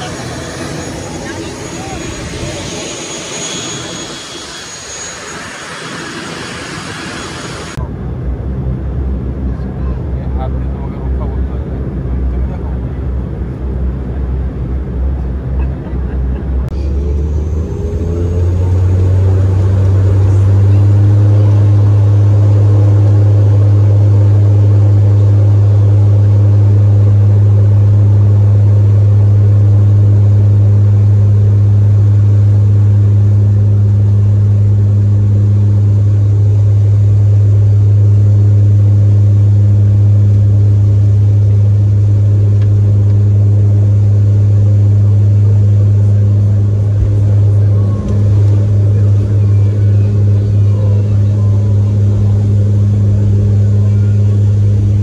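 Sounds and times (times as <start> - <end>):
airliner engines droning: 0.0 - 55.0.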